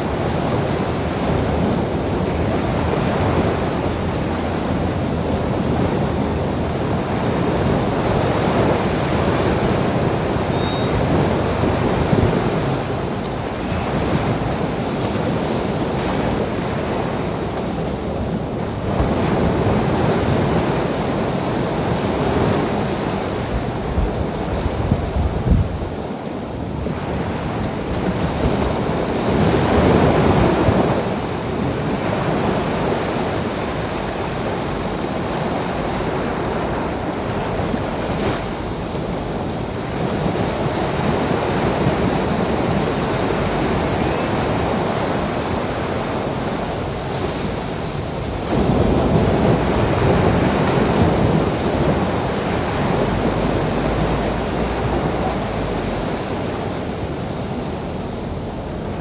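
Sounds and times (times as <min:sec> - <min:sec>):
ocean surf washing ashore: 0:00.0 - 0:59.0
waves breaking: 0:00.0 - 0:59.0.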